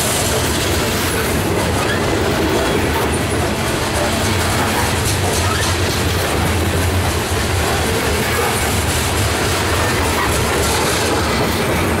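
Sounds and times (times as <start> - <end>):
freight train wheels rumbling: 0.0 - 12.0
wheels clacking over rail joints: 0.0 - 12.0.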